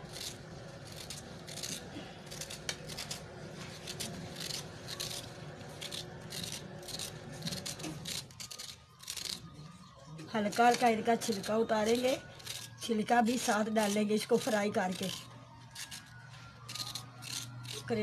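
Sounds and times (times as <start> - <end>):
knife scraping gourd skin: 0.0 - 18.0.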